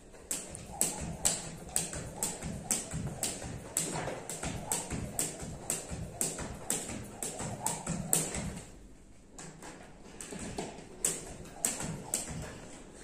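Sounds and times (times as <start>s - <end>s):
skipping rope slapping tile floor: 0.0s - 8.8s, 10.2s - 12.7s.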